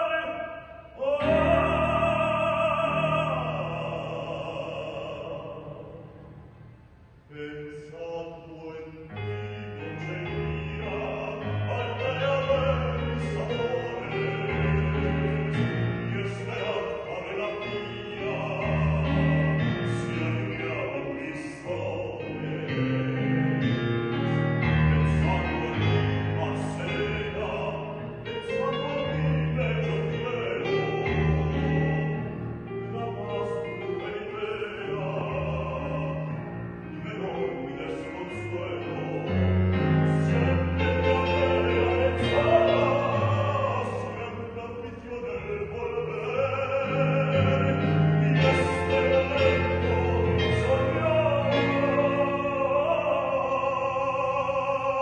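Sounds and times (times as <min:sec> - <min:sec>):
man singing operatically: 0:00.0 - 0:06.3, 0:07.3 - 0:55.0.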